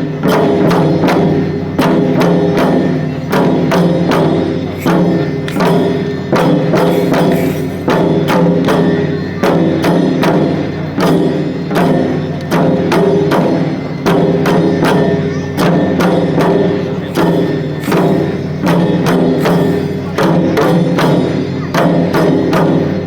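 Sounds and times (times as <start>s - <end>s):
taiko drum beating rhythm: 0.0s - 23.0s.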